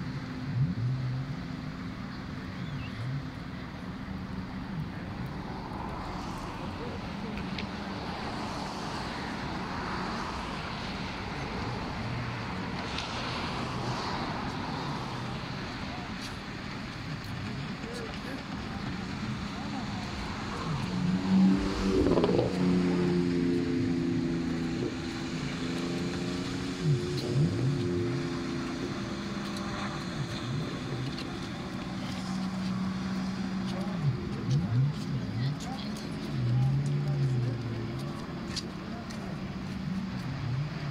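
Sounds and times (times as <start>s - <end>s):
distant jetboat engines: 0.0s - 40.9s
outdoor noise: 0.0s - 40.9s.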